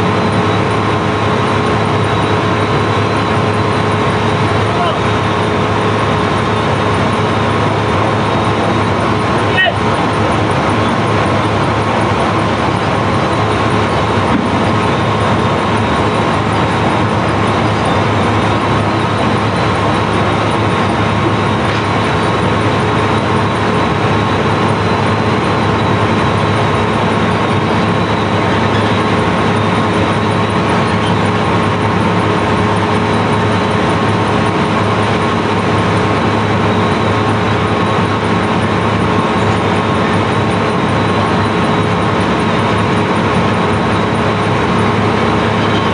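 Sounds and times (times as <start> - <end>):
conveyor machinery drone: 0.0 - 45.9.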